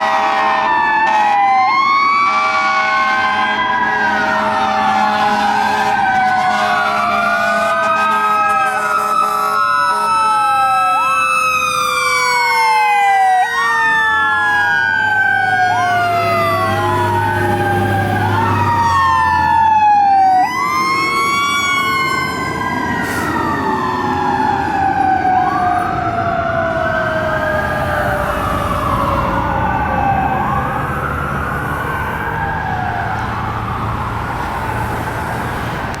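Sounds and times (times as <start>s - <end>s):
fire truck sirens wailing: 0.0s - 36.0s.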